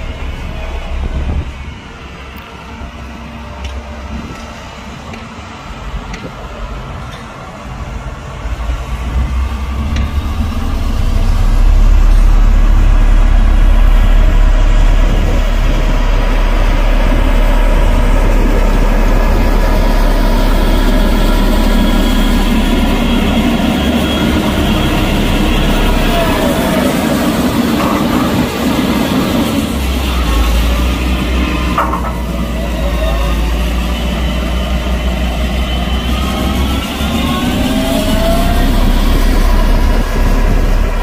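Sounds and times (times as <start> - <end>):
heavy diesel engine rumbling: 0.0 - 41.0.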